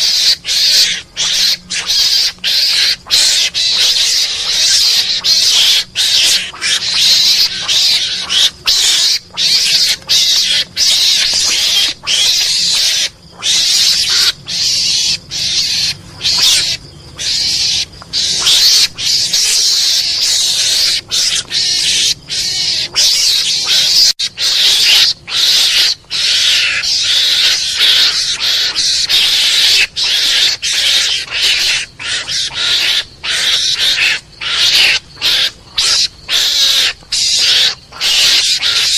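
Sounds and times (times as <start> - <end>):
mongoose lure call screeching chatter: 0.0 - 38.9.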